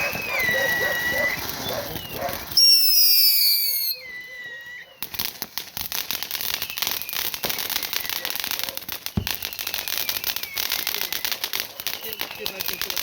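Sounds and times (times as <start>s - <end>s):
firework whistle: 0.0s - 13.0s.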